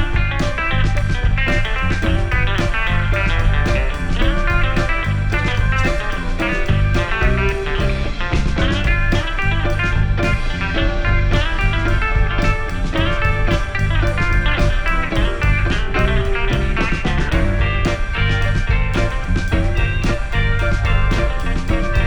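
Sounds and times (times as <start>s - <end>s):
guitar-led band music: 0.0s - 22.0s.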